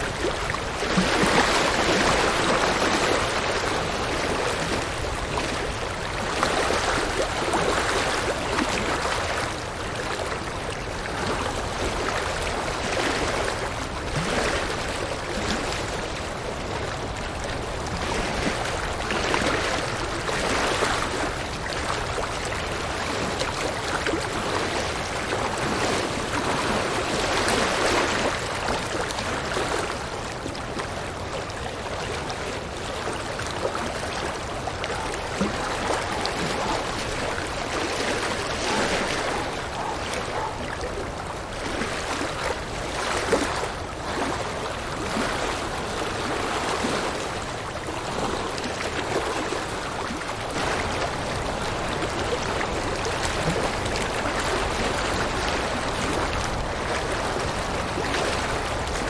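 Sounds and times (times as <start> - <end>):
river water splashing over rocks: 0.0 - 59.0.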